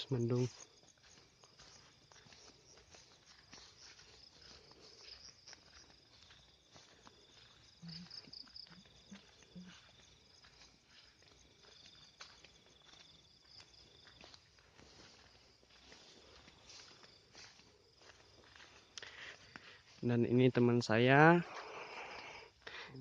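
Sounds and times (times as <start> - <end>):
crickets trilling: 0.0 - 23.0
soft footsteps: 0.0 - 23.0.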